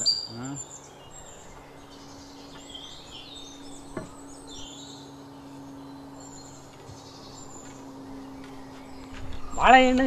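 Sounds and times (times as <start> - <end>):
steady low hum: 0.0 - 10.0
wild birds chirping: 0.0 - 10.0.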